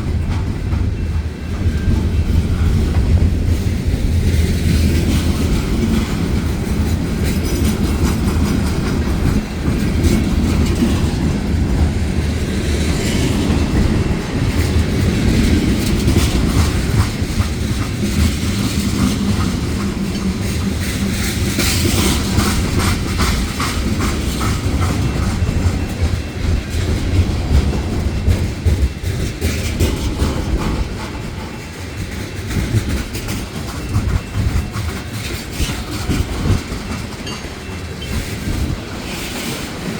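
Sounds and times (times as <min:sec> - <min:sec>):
freight train rolling past: 0:00.0 - 0:39.9
wheels clattering over rails: 0:00.0 - 0:39.9.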